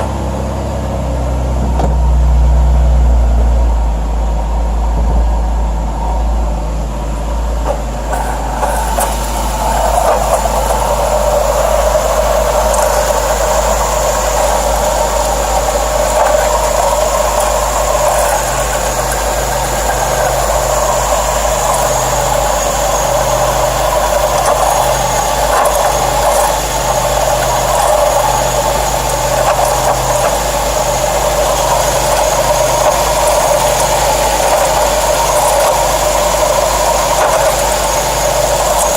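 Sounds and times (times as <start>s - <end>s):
car engine running: 0.0s - 38.9s
steady rushing noise: 0.0s - 38.9s.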